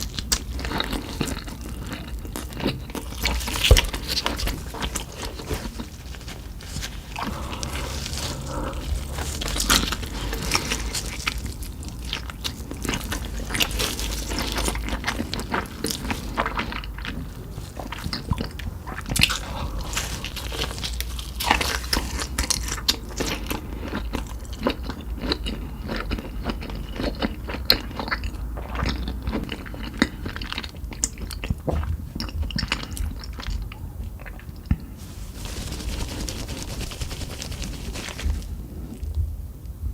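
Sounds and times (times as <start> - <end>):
crunchy eating: 0.0 - 39.2.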